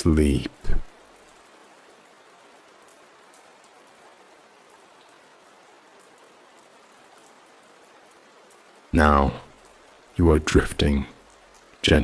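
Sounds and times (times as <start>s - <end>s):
faint rain falling: 0.0s - 12.0s.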